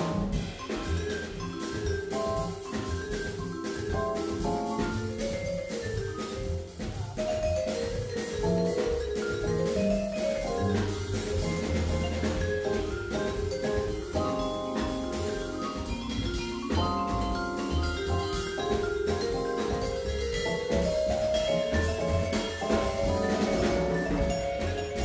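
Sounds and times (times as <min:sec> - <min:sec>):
drum kit with cymbals: 0:00.0 - 0:25.0
electric piano: 0:00.0 - 0:25.0
vibraphone mallet notes: 0:00.0 - 0:25.0
walking upright bass: 0:00.0 - 0:25.0.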